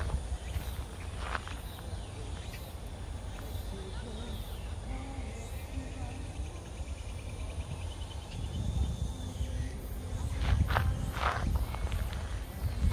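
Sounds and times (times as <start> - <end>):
faint high insect trill: 0.0 - 12.9.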